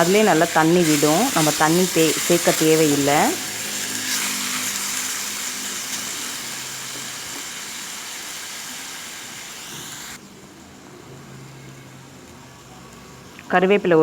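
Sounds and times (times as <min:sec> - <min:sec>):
mushrooms sizzling in oil: 0:00.0 - 0:14.0.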